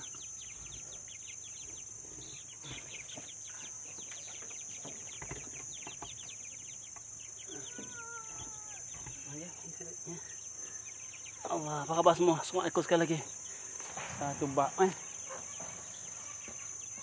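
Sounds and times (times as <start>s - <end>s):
chickens chirping: 0.0s - 17.0s.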